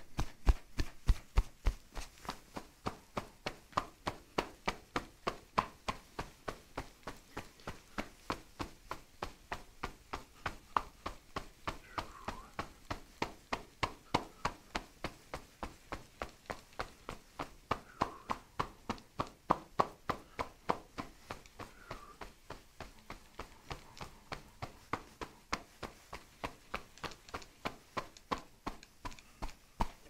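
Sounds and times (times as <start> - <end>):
hands chopping against a back: 0.2 - 30.0.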